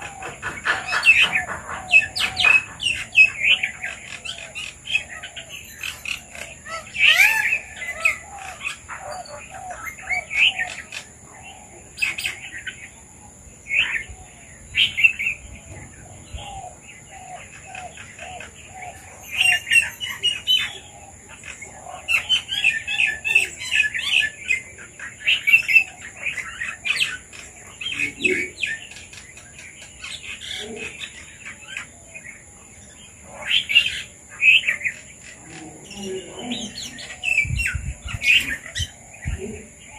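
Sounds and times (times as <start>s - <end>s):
birds chirping: 0.0s - 39.9s
bulbuls calling: 0.0s - 39.9s.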